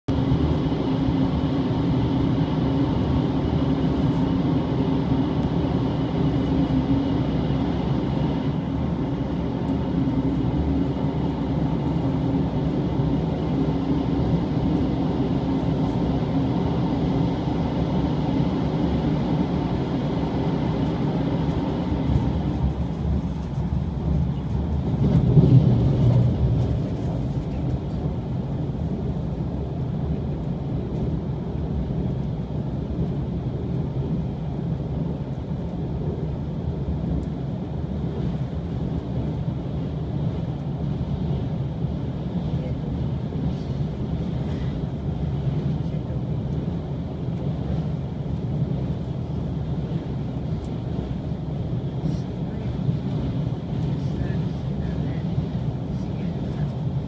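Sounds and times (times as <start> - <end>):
train wheels rumbling on rail: 0.1 - 57.0.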